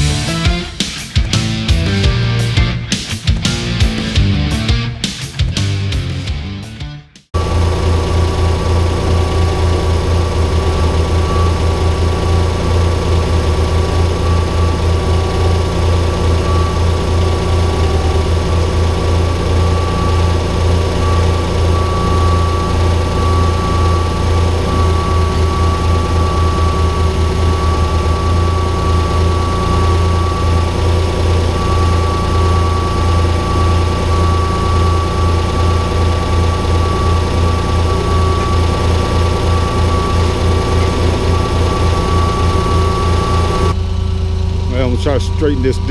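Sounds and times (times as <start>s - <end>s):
thin steady whine: 7.4s - 45.9s
tractor engine rumbling: 7.4s - 45.9s.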